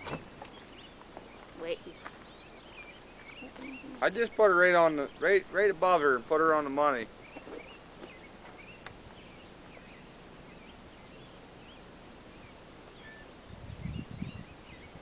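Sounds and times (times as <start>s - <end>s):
faint birds chirping: 0.0s - 15.0s
steady outdoor hiss: 0.0s - 15.0s.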